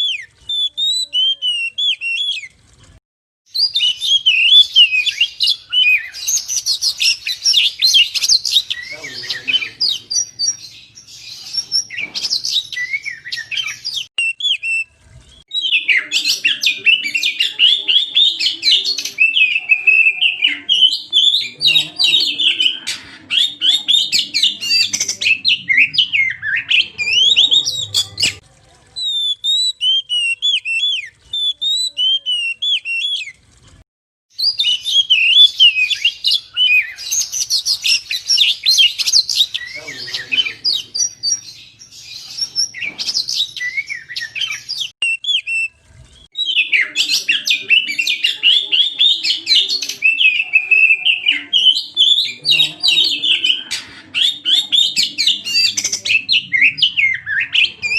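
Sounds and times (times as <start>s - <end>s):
bird singing whistled song: 0.0s - 2.5s, 3.5s - 28.4s, 29.0s - 33.4s, 34.4s - 57.9s.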